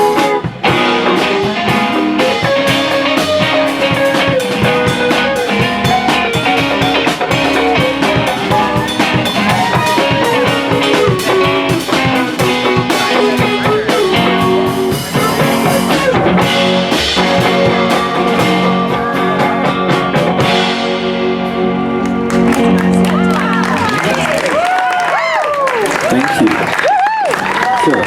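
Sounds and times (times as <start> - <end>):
guitar with bending notes: 0.0 - 24.6
drum kit beat: 0.0 - 25.9.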